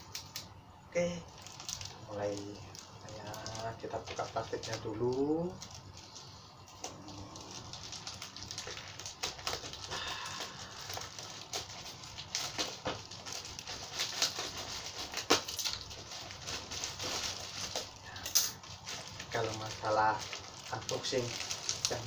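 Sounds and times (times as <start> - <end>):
plastic wrapping crinkling: 0.0 - 22.0
scissors cutting plastic: 3.1 - 22.0.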